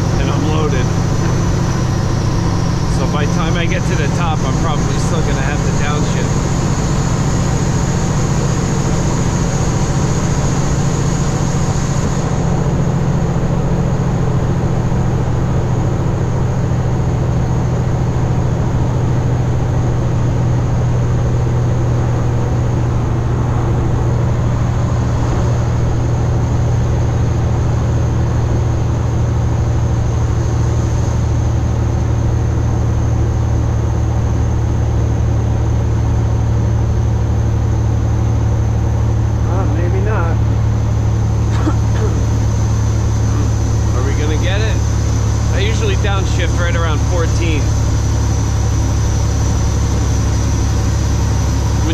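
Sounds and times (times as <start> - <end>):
truck diesel engine droning: 0.0 - 51.9.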